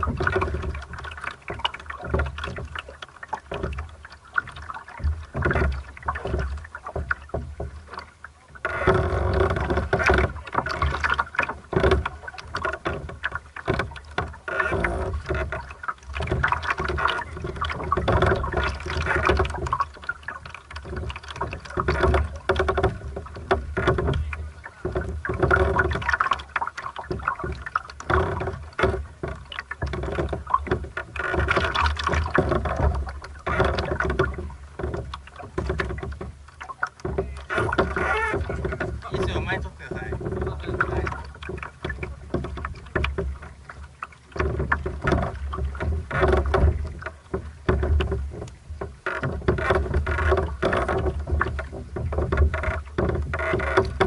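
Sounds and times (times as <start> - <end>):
water slapping against boat hull: 0.0 - 54.0.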